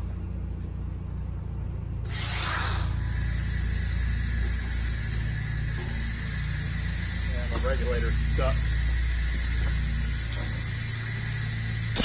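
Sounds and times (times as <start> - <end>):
low hum: 0.0 - 12.0
compressed air hissing: 2.1 - 12.0.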